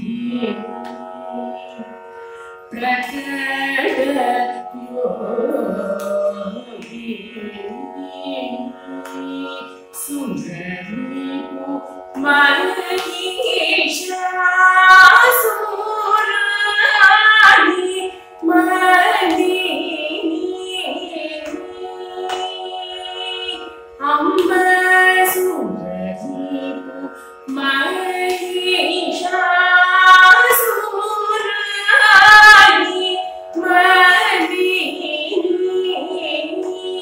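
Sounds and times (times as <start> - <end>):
woman singing devotional song: 0.0 - 37.0.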